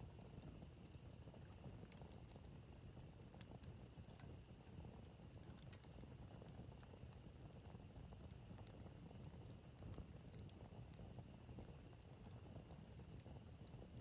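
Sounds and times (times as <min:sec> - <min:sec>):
campfire wood crackling and popping: 0:00.0 - 0:14.0.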